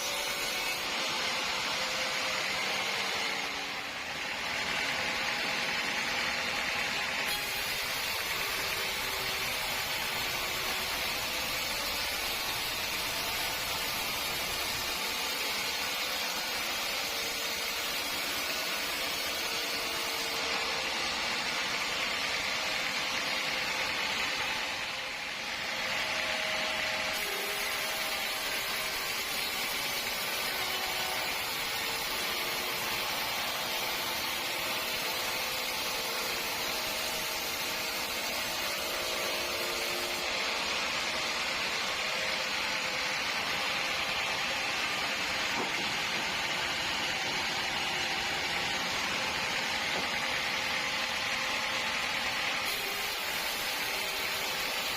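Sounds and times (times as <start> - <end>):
sawmill saw whirring: 0.0 - 54.9.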